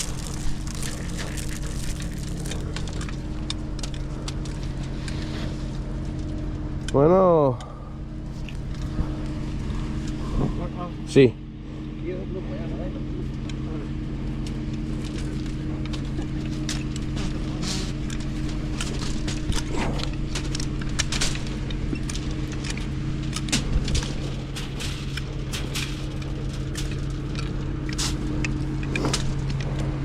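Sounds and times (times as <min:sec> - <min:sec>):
concrete pump engine running: 0:00.0 - 0:30.0.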